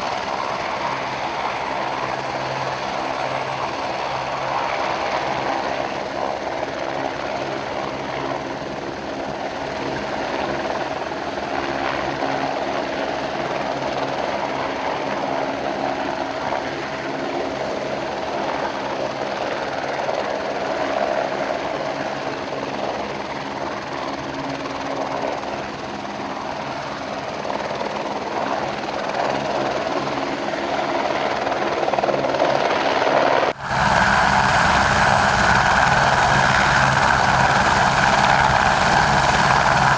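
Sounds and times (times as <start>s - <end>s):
helicopter turbine and rotor: 0.0s - 39.9s.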